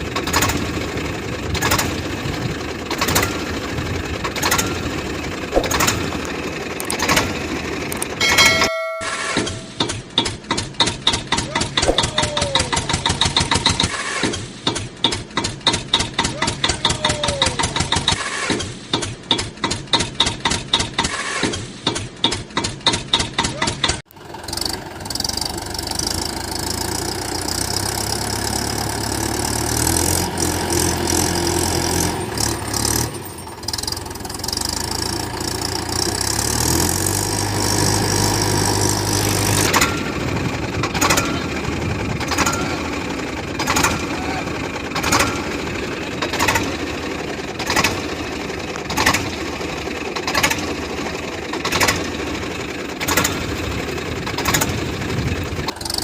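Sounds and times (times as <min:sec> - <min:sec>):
engine humming low: 0:00.0 - 0:14.0, 0:24.2 - 0:56.0
tractor engine chugging: 0:00.0 - 0:56.0.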